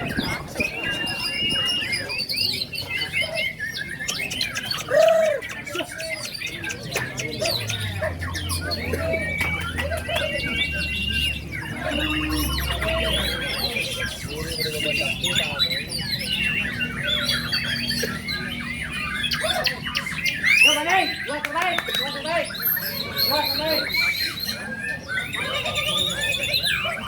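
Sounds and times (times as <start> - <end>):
songbirds singing: 0.0 - 27.0.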